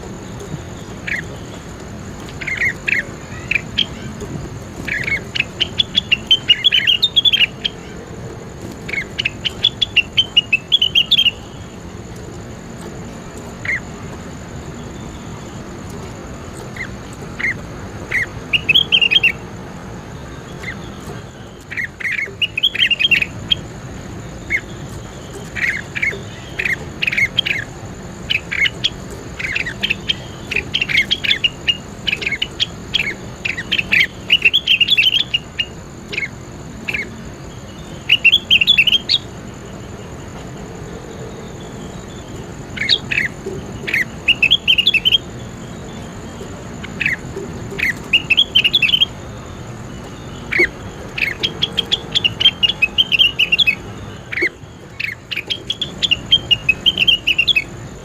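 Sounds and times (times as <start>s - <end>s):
faint steady high whine: 0.0s - 58.0s
songbird chirping: 0.0s - 58.0s.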